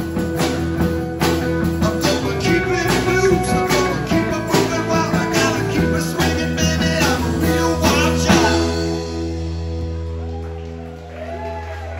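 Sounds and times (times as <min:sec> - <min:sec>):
live rock band playing: 0:00.0 - 0:11.9.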